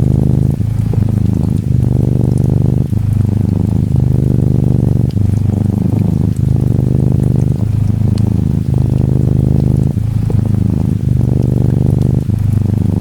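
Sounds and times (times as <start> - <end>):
faint rain pattering: 0.0 - 13.0
kitten purring: 0.0 - 13.0.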